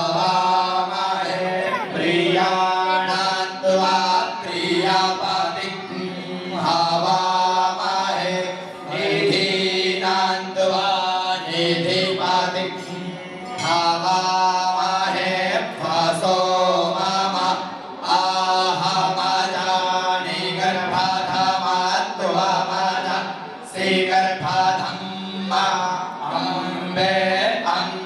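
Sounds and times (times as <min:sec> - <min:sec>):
men chanting: 0:00.0 - 0:28.0.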